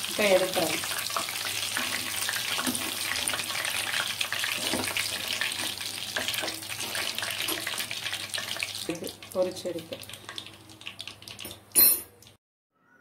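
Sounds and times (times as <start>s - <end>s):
chicken frying in hot oil: 0.0s - 12.4s
metal spoon turning food: 0.8s - 12.4s.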